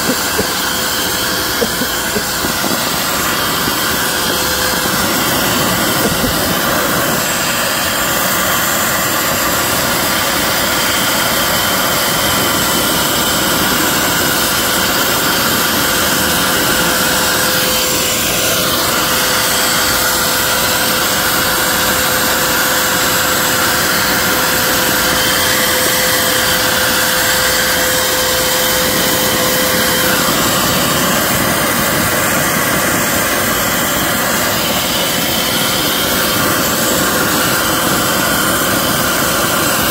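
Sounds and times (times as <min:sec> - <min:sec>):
thin steady whine: 0:00.0 - 0:39.9
vacuum cleaner sucking air: 0:00.0 - 0:39.9.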